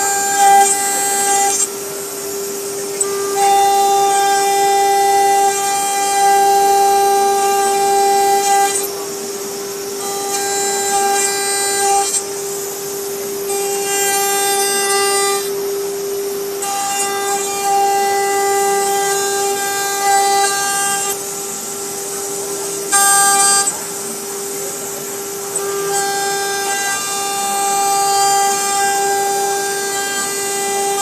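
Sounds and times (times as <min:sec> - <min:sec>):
buzzy cutting tone: 0:00.0 - 0:31.0
router spindle whining: 0:00.0 - 0:31.0.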